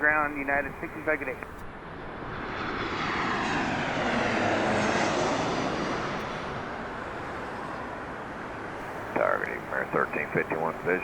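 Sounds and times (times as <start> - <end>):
jet aircraft passing by: 0.0 - 11.0.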